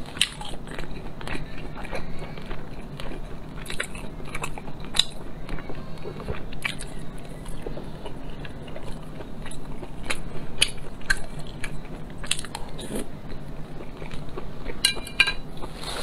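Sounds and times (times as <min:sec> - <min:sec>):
wet chewing clicks and smacks: 0:00.1 - 0:14.8.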